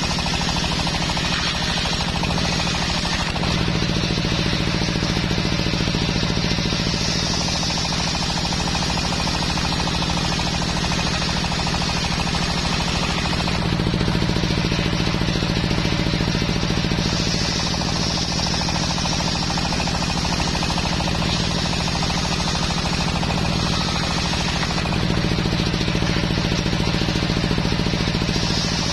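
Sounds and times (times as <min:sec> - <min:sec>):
circular saw cutting wood: 0:00.0 - 0:28.9
saw motor knocking: 0:00.0 - 0:28.9.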